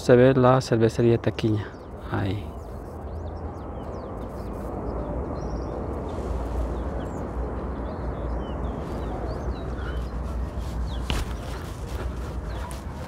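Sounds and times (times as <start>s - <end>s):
small birds chirping: 0.0s - 13.0s
wind buffeting microphone: 0.8s - 13.0s.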